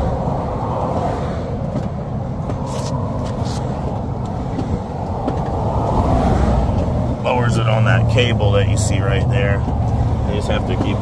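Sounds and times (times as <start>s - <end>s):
traffic rumble passing close: 0.0s - 11.0s.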